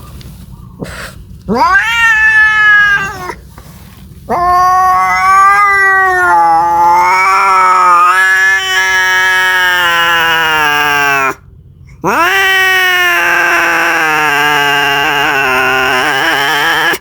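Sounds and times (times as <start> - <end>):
cat yowling: 1.5 - 3.4, 4.3 - 11.4, 12.0 - 17.0.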